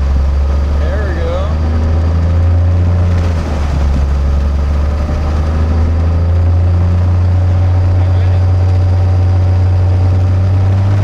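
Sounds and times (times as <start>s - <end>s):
aircraft engine and propeller running: 0.0s - 11.0s.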